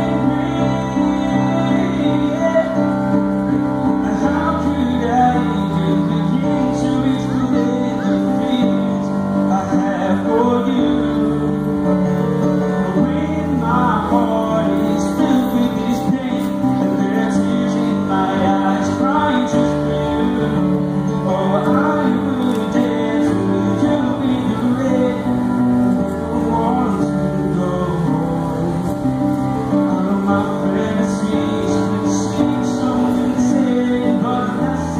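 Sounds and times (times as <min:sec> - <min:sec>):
grand piano playing: 0:00.0 - 0:34.9
man singing: 0:00.0 - 0:34.9.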